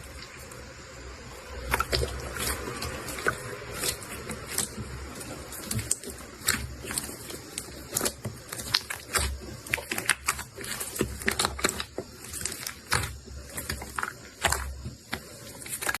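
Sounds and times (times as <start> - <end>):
slime clicking and crackling: 1.4 - 16.0.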